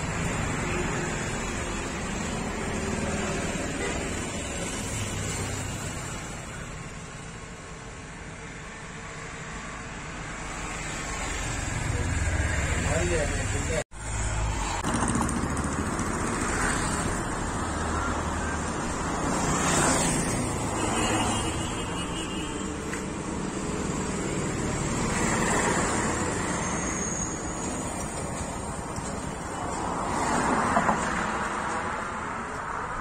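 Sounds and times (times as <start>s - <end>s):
vehicles passing: 0.0s - 33.0s.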